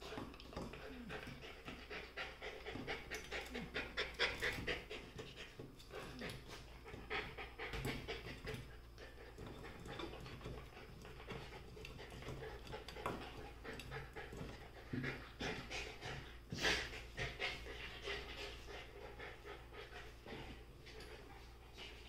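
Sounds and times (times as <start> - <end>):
puppies panting: 0.0 - 22.0.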